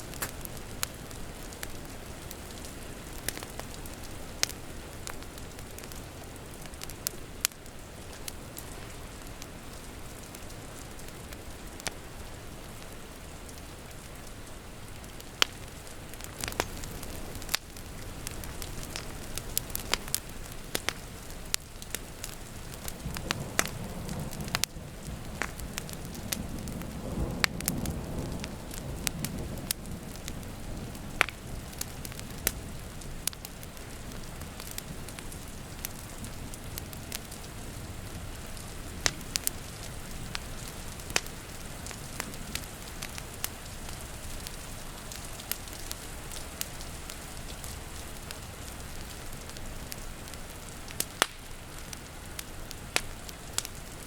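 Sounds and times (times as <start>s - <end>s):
rain pattering: 0.0s - 54.0s
wood fire crackling: 0.0s - 54.0s.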